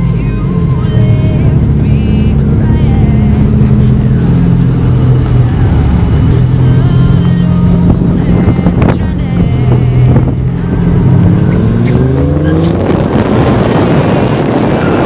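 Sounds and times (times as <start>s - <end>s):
music playing: 0.0s - 12.8s
car engine running: 0.0s - 15.0s.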